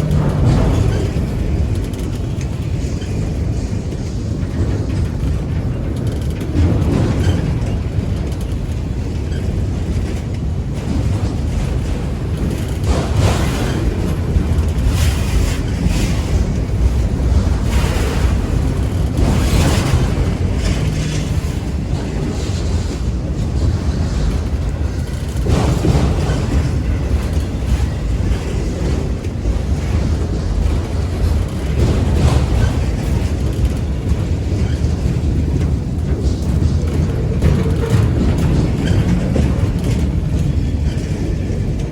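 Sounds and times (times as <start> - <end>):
freight train rumbling past: 0.0 - 41.9
wind buffeting microphone: 0.0 - 41.9.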